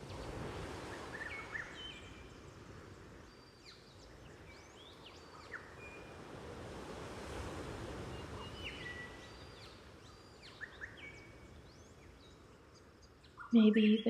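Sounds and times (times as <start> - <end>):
gentle ocean waves: 0.0 - 14.0.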